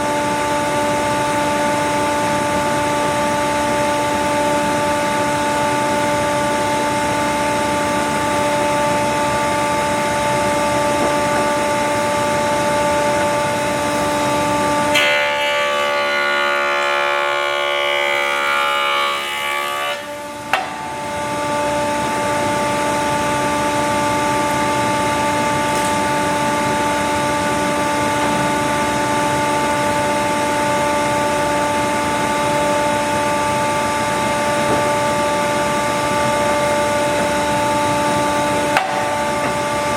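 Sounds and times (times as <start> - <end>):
woodworking machine humming: 0.0 - 39.9.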